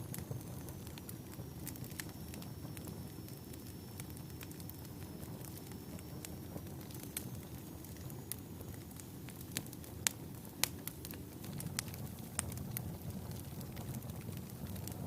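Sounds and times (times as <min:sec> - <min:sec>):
flames rumbling: 0:00.0 - 0:15.0
logs crackling and popping: 0:00.0 - 0:15.0.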